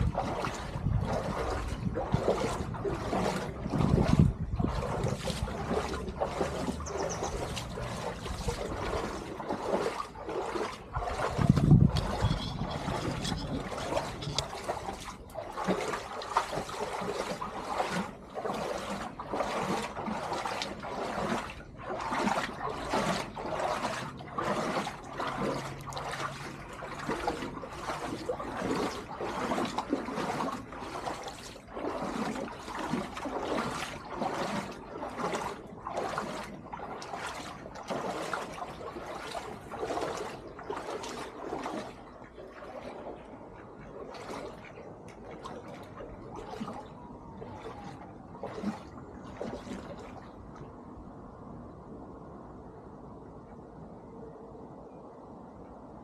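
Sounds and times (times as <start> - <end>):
wading through brook water: 0.0 - 56.0.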